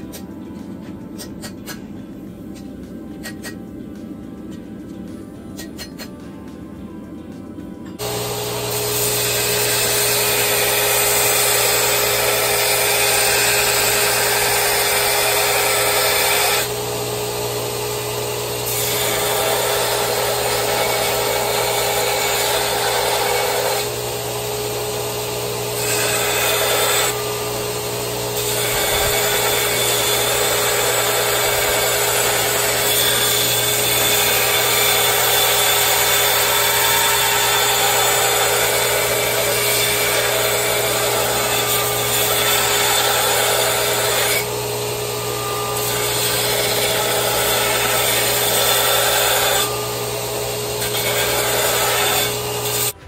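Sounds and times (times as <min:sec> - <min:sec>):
angle grinder grinding steel: 0:08.0 - 0:53.0.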